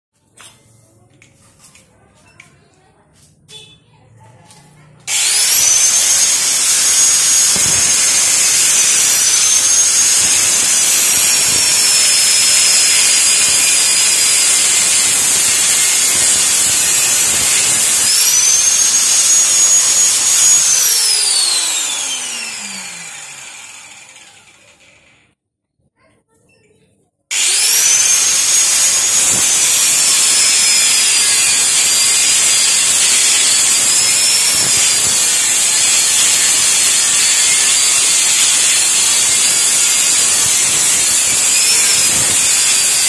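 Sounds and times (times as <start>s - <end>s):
angle grinder cutting metal: 5.0s - 25.3s, 27.3s - 43.0s
grinder disc spinning down: 5.1s - 25.3s, 27.3s - 43.0s.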